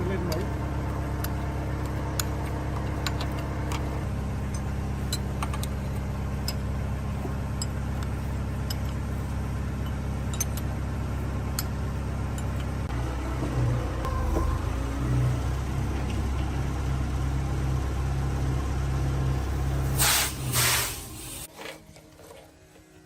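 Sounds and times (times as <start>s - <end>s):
engine idling: 0.0s - 21.5s.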